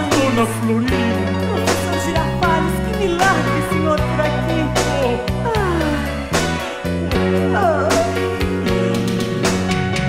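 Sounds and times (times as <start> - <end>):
pop song with guitar and bass: 0.0 - 10.0.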